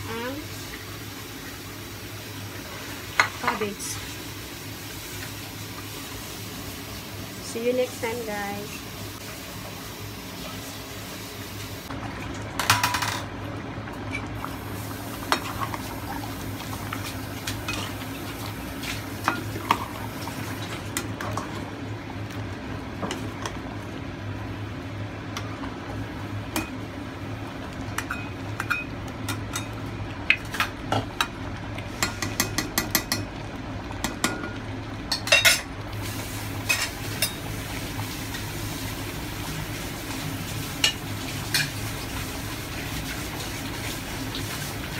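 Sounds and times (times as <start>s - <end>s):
stew simmering: 0.0s - 12.6s, 13.3s - 44.9s.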